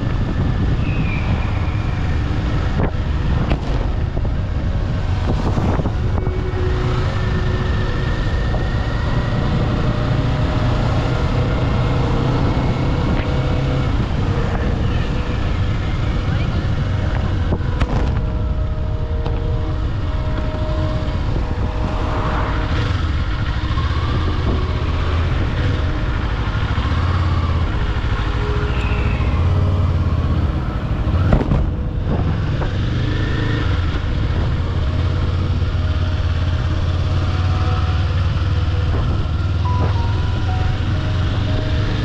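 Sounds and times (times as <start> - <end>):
motorcycle engine cruising: 0.0 - 42.0
wind and road rush: 0.0 - 42.0.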